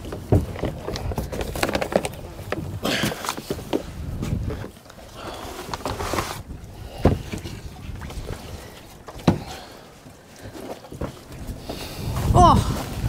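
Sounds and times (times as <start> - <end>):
wind noise: 0.0 - 9.8, 10.4 - 13.0.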